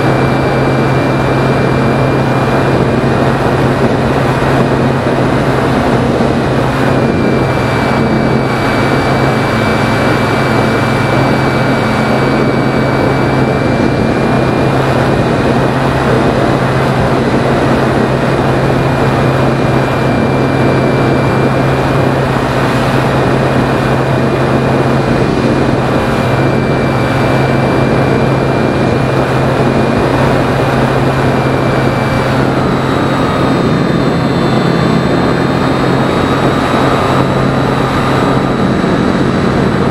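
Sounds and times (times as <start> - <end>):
electric motor and propeller whine: 0.0 - 39.9
wind rush: 0.0 - 39.9.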